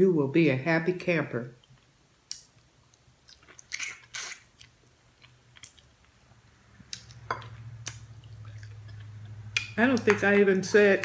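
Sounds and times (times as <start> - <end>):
low steady hum: 0.0 - 11.0
person chewing with wet smacks: 1.6 - 11.0.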